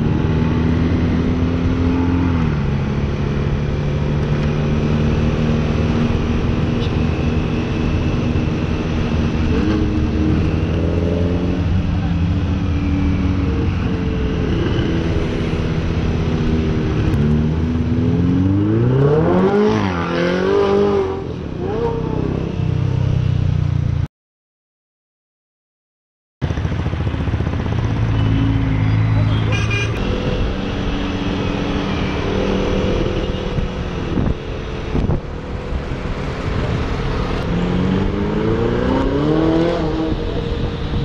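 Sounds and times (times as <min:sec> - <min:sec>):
motorcycle engine drone: 0:00.0 - 0:24.0, 0:26.4 - 0:41.0.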